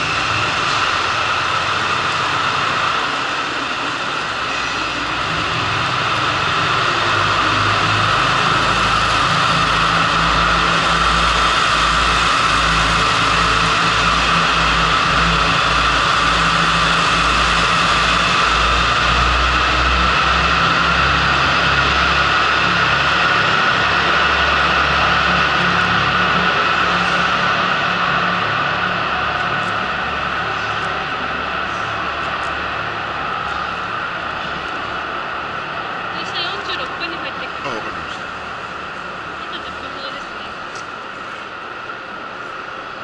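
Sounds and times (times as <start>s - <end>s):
low throbbing: 0.0s - 43.0s
steady mechanical drone: 0.0s - 43.0s.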